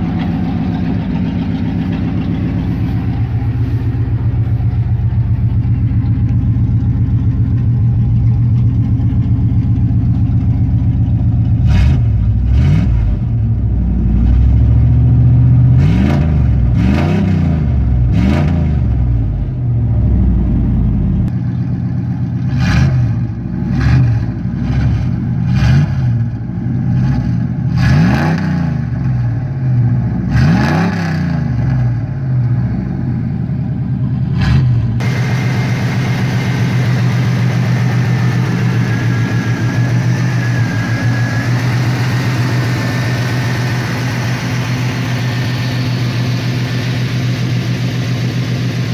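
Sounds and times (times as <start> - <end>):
car engine idling and revving: 0.0 - 48.9.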